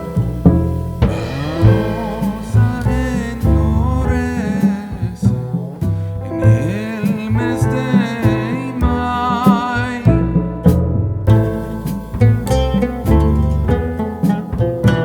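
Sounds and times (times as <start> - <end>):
melodic tune over bass line: 0.0 - 5.6, 6.2 - 15.0.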